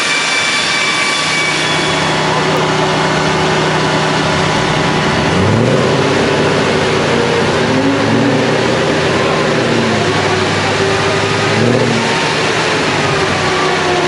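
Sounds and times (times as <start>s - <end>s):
car engine revving on dynamometer: 0.0s - 14.0s.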